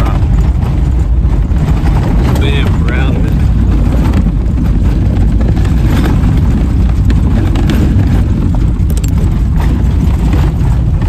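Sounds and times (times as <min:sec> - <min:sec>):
car engine rumble: 0:00.0 - 0:11.0
tyres on gravel: 0:00.0 - 0:11.0
wind buffeting camera: 0:00.0 - 0:11.0.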